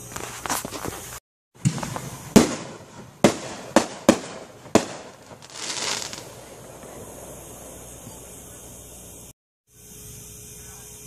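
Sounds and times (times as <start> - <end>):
fireworks bangs: 0.0 - 9.4
fireworks hiss: 0.0 - 11.0.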